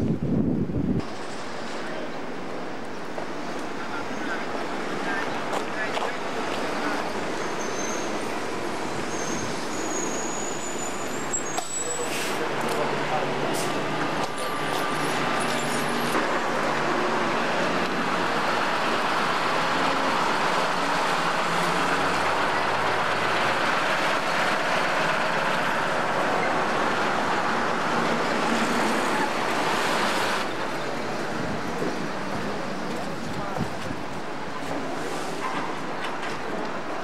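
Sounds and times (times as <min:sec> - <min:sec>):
bus engine pulling away: 0:00.0 - 0:37.0
street traffic noise: 0:00.0 - 0:37.0.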